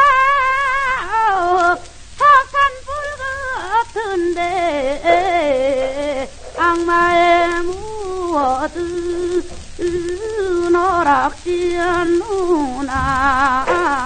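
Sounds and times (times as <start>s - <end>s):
person singing with wide vibrato: 0.0s - 14.0s
record surface crackle: 0.0s - 14.0s.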